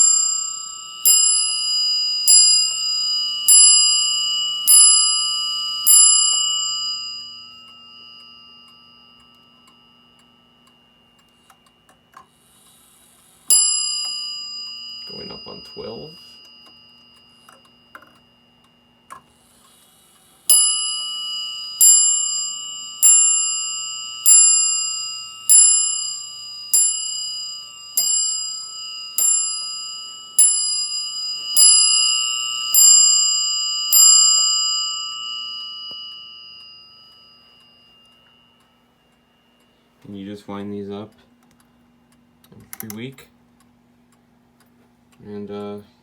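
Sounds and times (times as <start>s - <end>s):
clock bell strikes: 0.0s - 11.6s, 13.5s - 19.6s, 20.4s - 41.2s
clock mechanism clicks: 0.0s - 46.0s.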